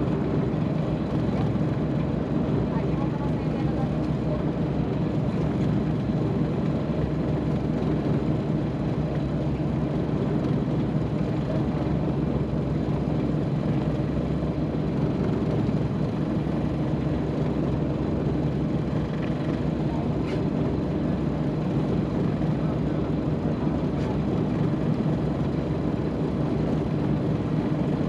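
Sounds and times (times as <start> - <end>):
boat motor droning: 0.0 - 28.0.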